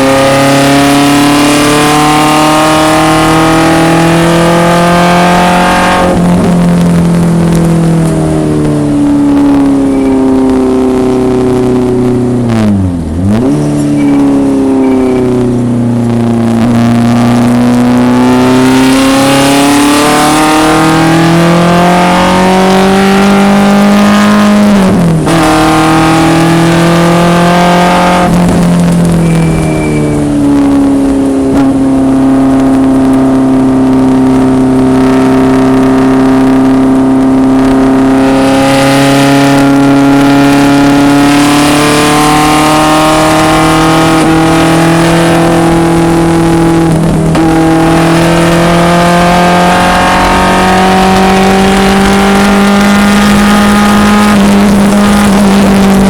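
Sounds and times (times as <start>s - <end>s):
racecar engine revving: 0.0s - 56.0s.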